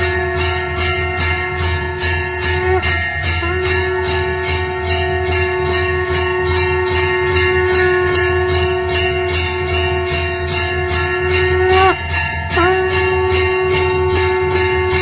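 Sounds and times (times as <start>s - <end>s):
long steady held tone: 0.0s - 15.0s
temple bells ringing rapidly: 0.0s - 15.0s.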